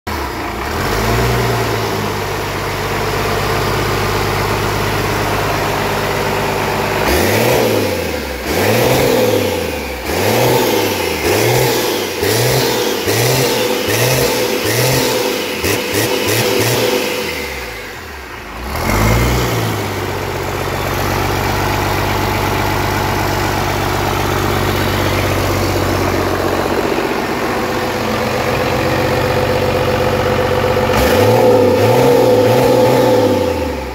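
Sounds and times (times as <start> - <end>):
diesel engine revving and idling: 0.1 - 33.9.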